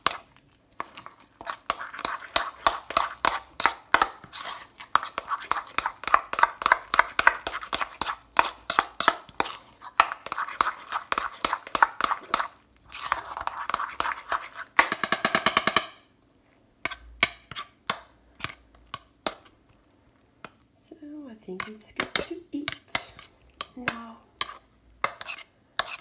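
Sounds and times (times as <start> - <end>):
spoon stirring oatmeal in a pot: 0.0 - 26.0.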